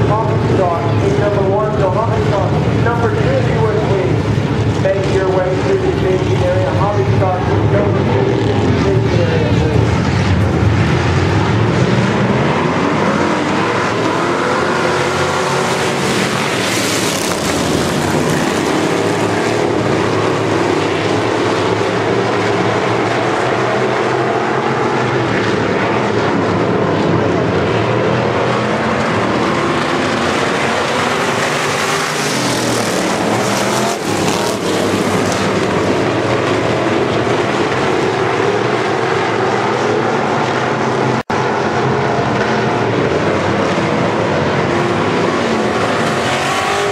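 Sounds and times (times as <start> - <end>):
race car engines accelerating: 0.0 - 46.9.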